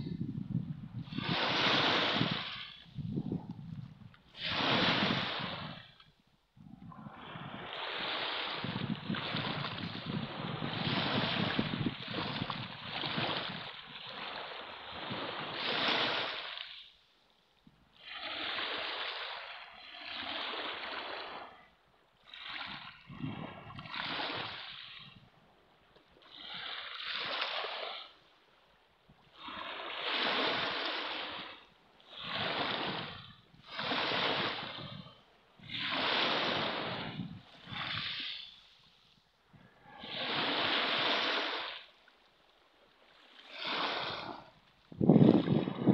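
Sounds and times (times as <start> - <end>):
small waves lapping on pebbles: 1.0 - 3.0, 4.2 - 6.1, 7.2 - 17.1, 17.9 - 28.4, 29.2 - 39.3, 39.9 - 45.9.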